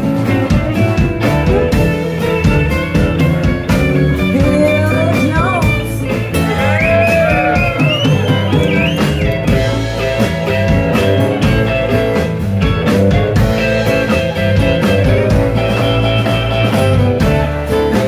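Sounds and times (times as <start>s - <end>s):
blues band playing: 0.0s - 18.0s
electric guitar bending notes: 0.0s - 18.0s.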